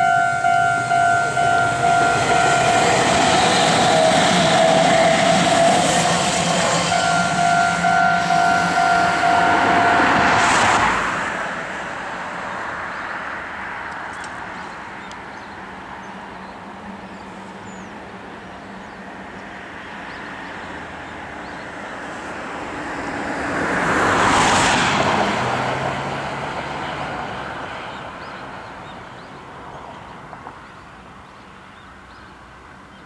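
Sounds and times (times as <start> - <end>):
road vehicle passing by: 0.0 - 30.2.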